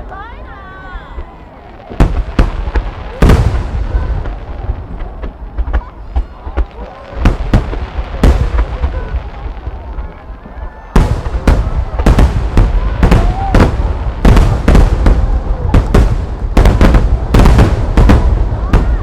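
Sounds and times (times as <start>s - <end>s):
firework shells booming: 1.9s - 9.4s, 11.0s - 19.0s.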